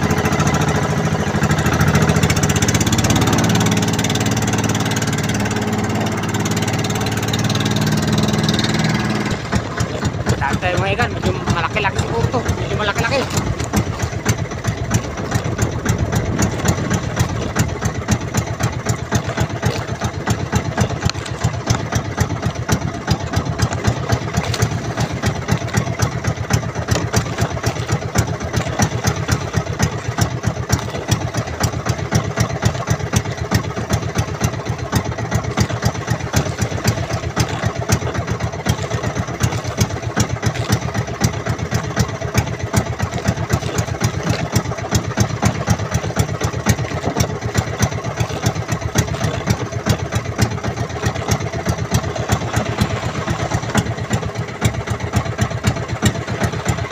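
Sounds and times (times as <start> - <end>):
boat engine thudding: 0.0 - 56.9.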